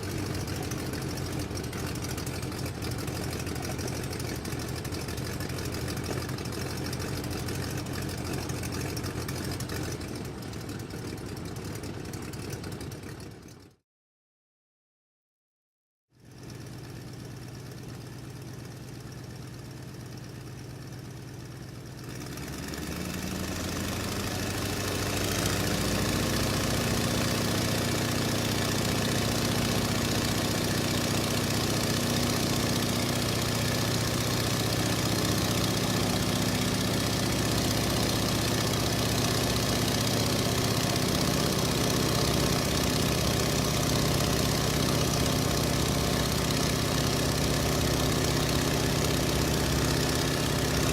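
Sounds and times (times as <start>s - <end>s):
piston aircraft engine running: 0.0s - 13.7s, 22.0s - 50.9s.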